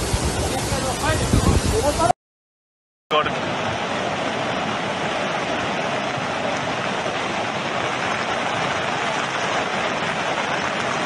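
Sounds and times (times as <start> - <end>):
river in flood rushing: 0.0 - 2.1, 3.1 - 11.0.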